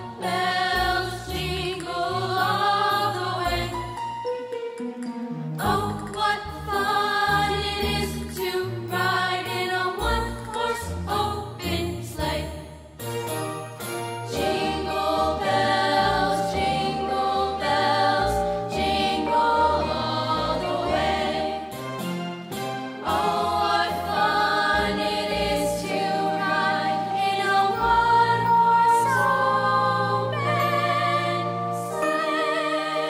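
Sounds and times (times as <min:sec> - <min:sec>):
choir singing in harmony: 0:00.0 - 0:04.0, 0:05.6 - 0:13.4, 0:14.2 - 0:33.0.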